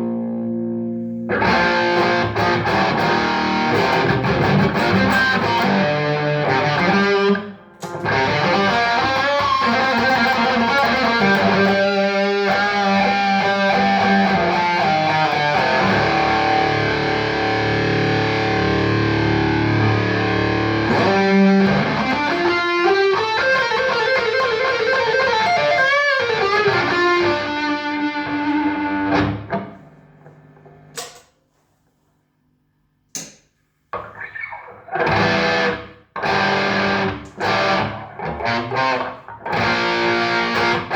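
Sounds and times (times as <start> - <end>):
electric guitar through valve amp: 0.0 - 31.1, 34.0 - 40.9.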